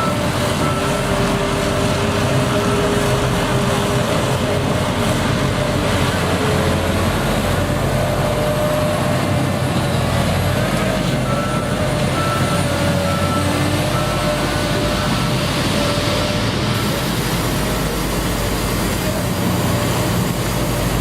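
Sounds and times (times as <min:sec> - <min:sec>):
heavy machinery engine humming: 0:00.0 - 0:21.0.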